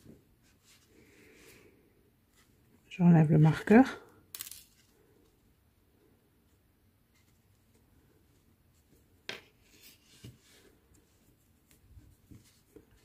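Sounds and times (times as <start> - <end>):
soft rustles of yarn: 0.0 - 4.1, 4.8 - 13.0.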